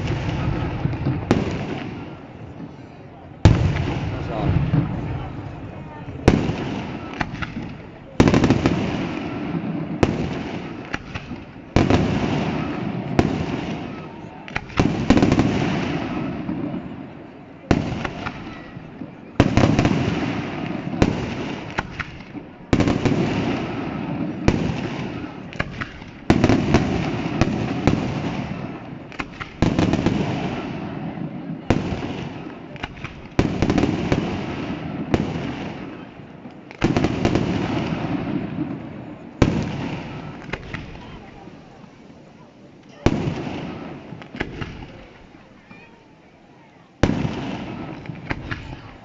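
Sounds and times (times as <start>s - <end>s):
firework booms with echo: 0.0s - 41.7s, 43.0s - 45.4s, 47.0s - 49.0s
firework crackling: 0.0s - 49.0s.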